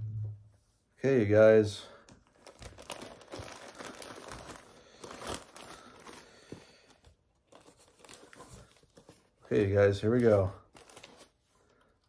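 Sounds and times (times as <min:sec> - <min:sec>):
plastic packing crinkling: 0:01.9 - 0:12.0.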